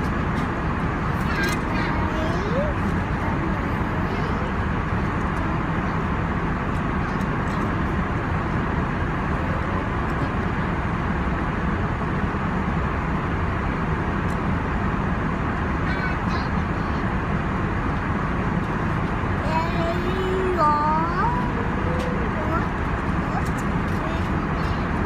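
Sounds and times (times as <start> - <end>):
aircraft cabin roar: 0.0 - 25.0.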